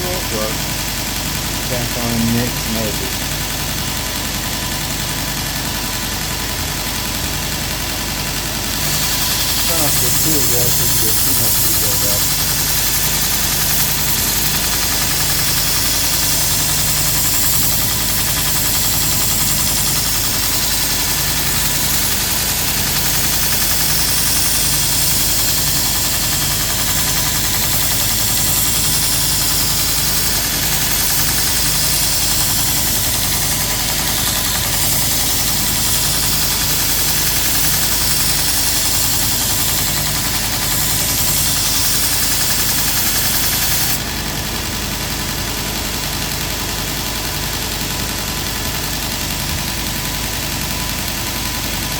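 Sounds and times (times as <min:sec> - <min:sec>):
grinding hiss: 0:00.0 - 0:06.2, 0:06.8 - 0:44.6
belt grinder motor hum: 0:00.0 - 0:51.9.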